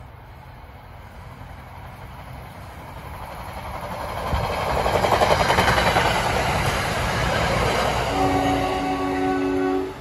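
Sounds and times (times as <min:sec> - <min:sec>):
commuter train passing: 0:00.0 - 0:10.0.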